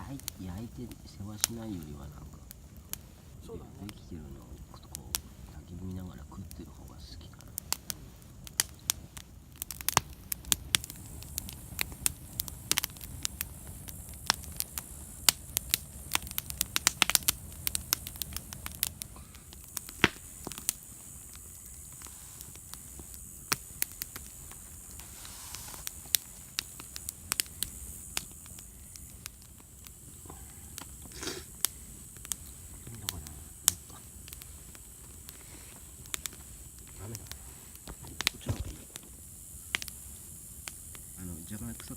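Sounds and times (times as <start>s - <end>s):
bonfire crackling and popping: 0.0s - 41.9s
low steady fire rumble: 0.0s - 41.9s.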